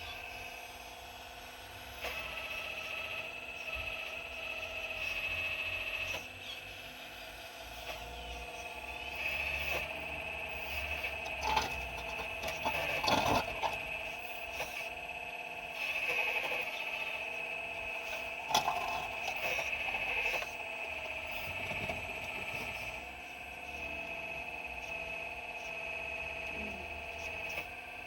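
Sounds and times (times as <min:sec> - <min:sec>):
excavator drive whine: 0:00.0 - 0:28.0.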